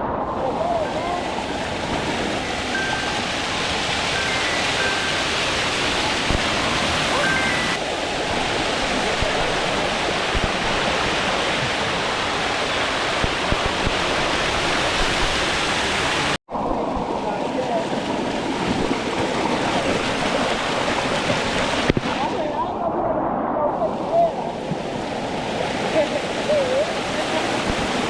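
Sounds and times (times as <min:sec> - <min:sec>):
waterfall rushing: 0:00.0 - 0:22.7, 0:23.8 - 0:28.0.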